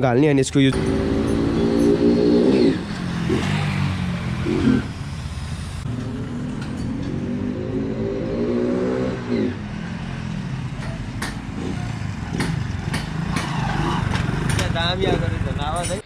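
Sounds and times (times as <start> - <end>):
motorcycle engine revving: 0.6 - 16.0.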